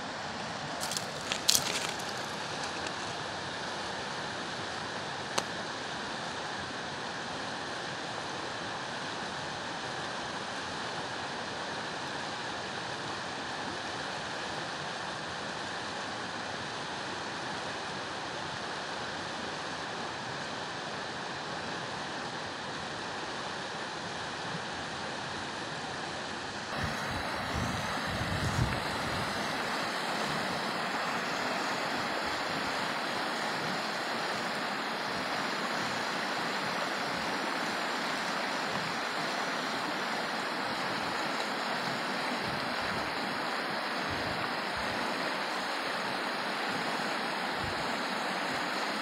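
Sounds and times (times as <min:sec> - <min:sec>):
river rushing over stones: 0:00.0 - 0:49.0.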